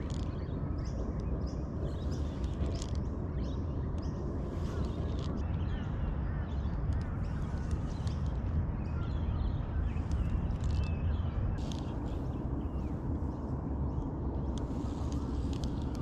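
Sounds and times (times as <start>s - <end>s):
birds calling and chirping: 0.0s - 16.0s
steady low rumble: 0.0s - 16.0s.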